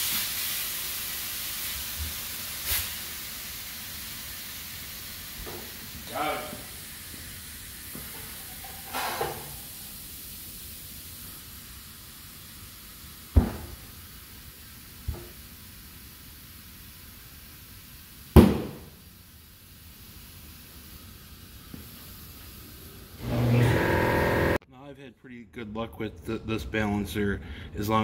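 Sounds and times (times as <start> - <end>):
air hissing into tire: 0.0 - 24.6.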